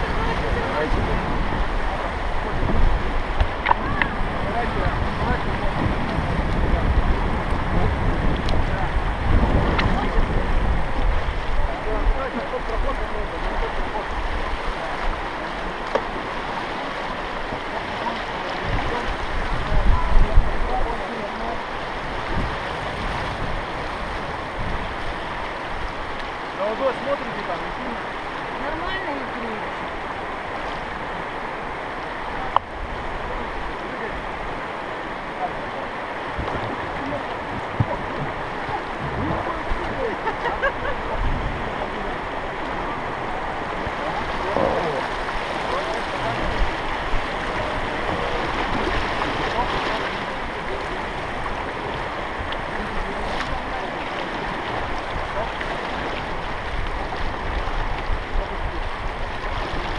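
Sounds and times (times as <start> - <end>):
river water rushing over rocks: 0.0 - 59.9
wind buffeting the microphone: 0.0 - 59.9.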